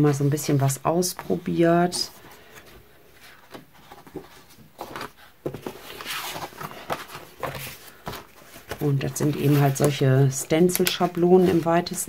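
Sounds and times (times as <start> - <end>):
stencil templates rustling: 0.0 - 12.0.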